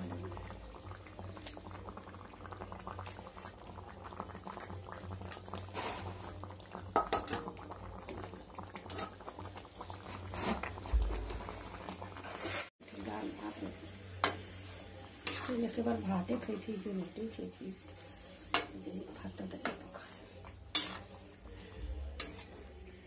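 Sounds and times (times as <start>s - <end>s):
curry boiling in pot: 0.0s - 23.0s.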